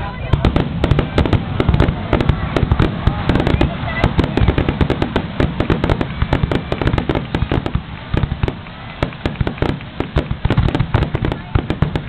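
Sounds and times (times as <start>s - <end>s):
deep firework booms: 0.2s - 12.0s.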